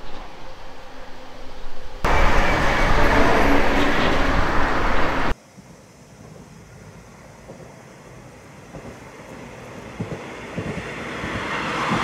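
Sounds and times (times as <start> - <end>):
train passing over bridge: 0.0 - 5.4, 6.7 - 12.0
outdoor background: 0.0 - 12.0.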